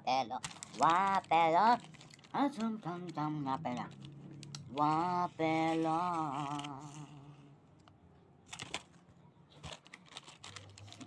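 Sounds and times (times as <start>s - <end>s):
crisp wafer crunches: 0.4s - 7.2s, 8.5s - 11.0s.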